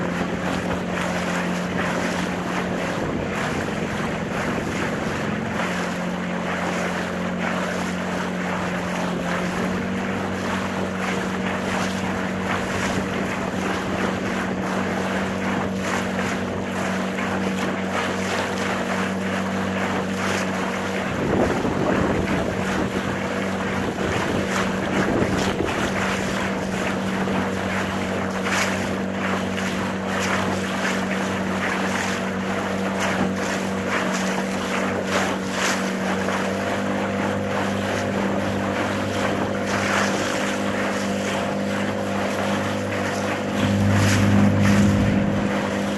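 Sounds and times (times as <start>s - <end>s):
small boat motor running: 0.0s - 45.9s
water rushing past hull: 0.0s - 45.9s
wind buffeting microphone: 0.0s - 45.9s.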